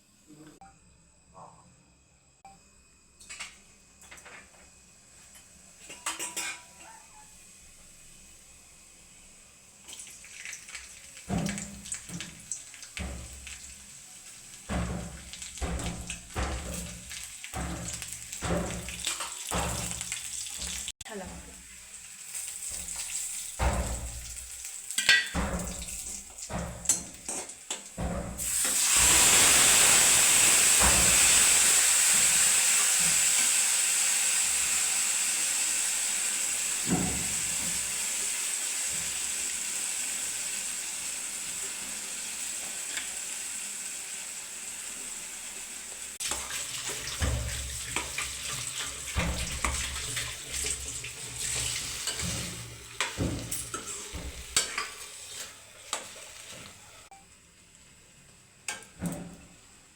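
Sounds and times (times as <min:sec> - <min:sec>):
food sizzling in hot oil: 0:04.6 - 0:57.1.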